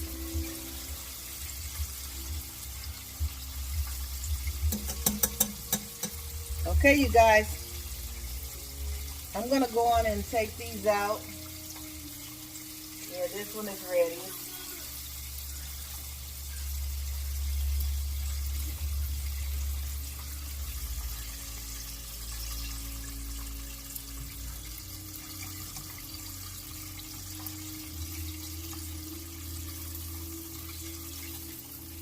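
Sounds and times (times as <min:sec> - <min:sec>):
chicken frying in oil: 0:00.0 - 0:32.0.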